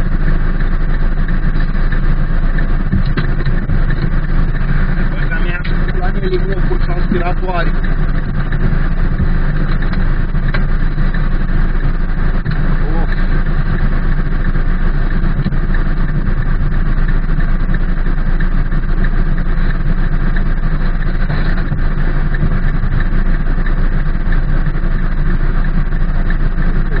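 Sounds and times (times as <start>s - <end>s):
low rumble: 0.0s - 27.0s
rain on car roof and windows: 0.0s - 27.0s.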